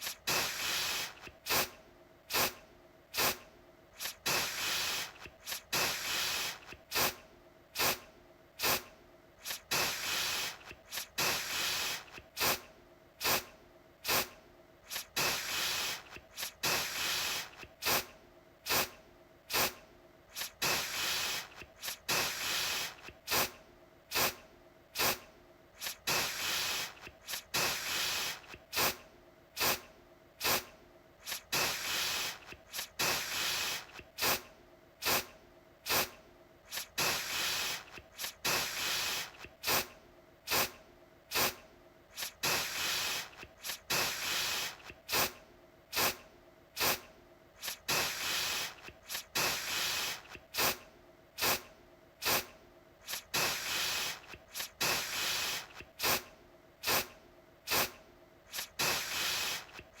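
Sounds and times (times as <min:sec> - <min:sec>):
aerosol can spraying: 0:00.0 - 0:03.4, 0:04.0 - 0:07.2, 0:07.8 - 0:08.0, 0:08.6 - 0:24.4, 0:25.0 - 0:25.2, 0:25.8 - 0:29.0, 0:29.6 - 0:39.9, 0:40.5 - 0:46.2, 0:46.8 - 0:50.8, 0:51.4 - 0:57.1, 0:57.7 - 1:00.0.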